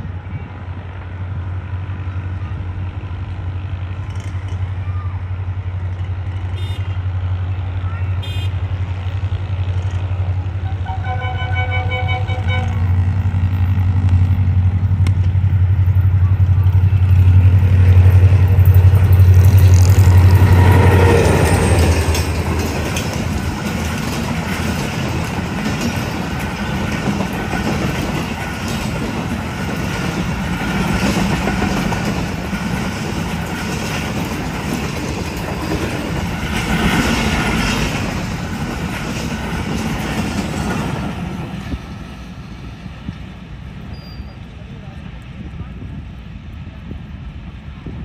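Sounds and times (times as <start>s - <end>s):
locomotive engine passing: 0.0s - 48.0s
train wheels on rails: 0.0s - 48.0s.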